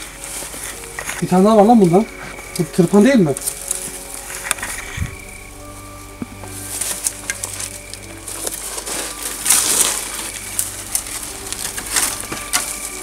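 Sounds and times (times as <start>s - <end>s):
footsteps crunching through dry debris: 0.0s - 13.0s.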